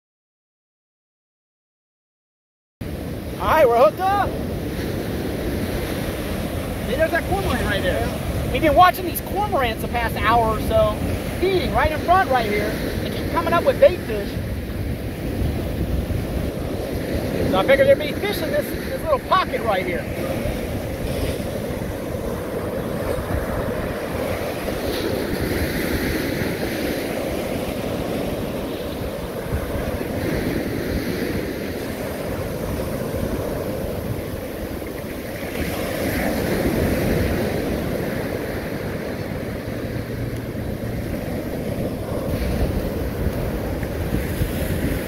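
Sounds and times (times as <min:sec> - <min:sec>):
ocean surf breaking: 0:02.8 - 0:45.0
wind on microphone: 0:02.8 - 0:45.0.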